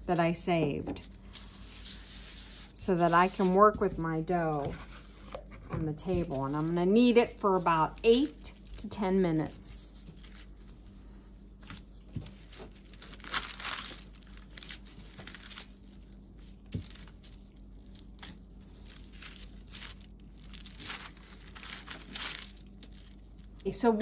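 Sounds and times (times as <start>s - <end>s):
wax paper crinkling: 0.9s - 24.0s.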